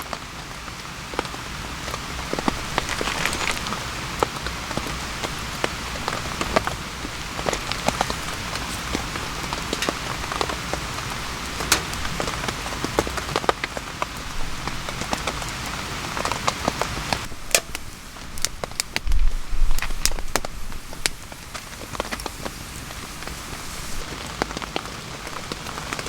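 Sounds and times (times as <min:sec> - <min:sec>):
rain falling: 0:00.0 - 0:26.0
raindrops ticking close by: 0:00.0 - 0:26.0.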